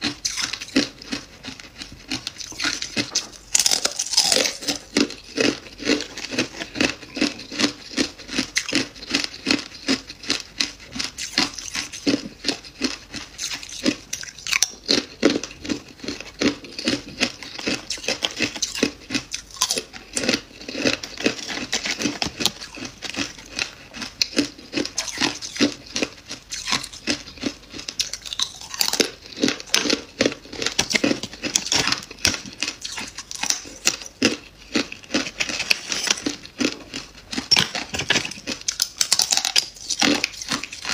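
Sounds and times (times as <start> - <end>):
ice crunching being chewed: 0.0 - 40.9.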